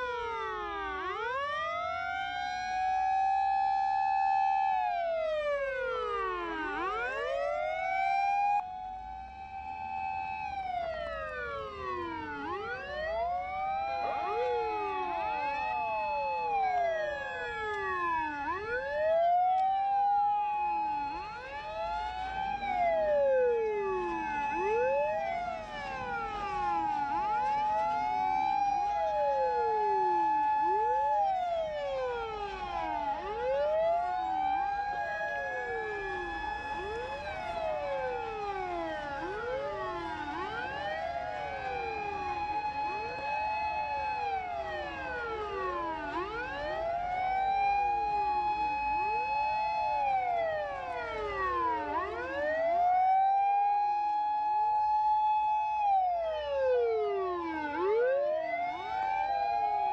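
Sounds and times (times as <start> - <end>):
fire engine sirens wailing: 0.0 - 59.9.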